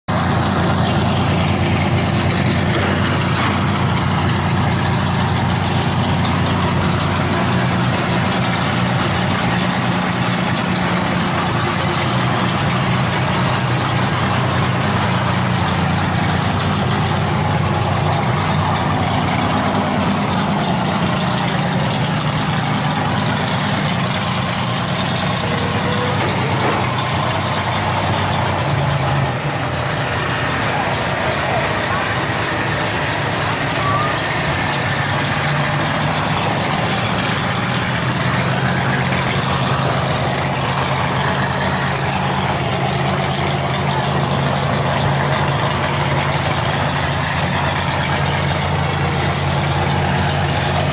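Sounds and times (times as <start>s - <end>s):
large engine idling: 0.0s - 50.9s.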